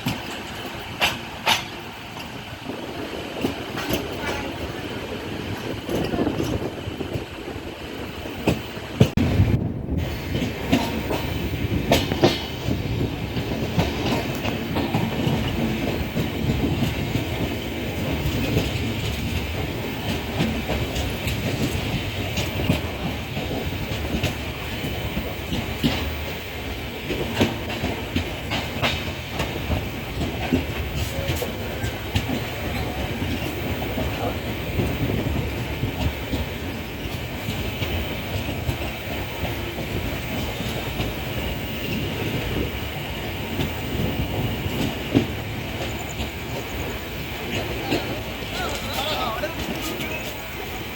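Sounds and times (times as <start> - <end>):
train rumbling on rails: 0.0 - 50.9
wheels clacking over rail joints: 0.0 - 50.9.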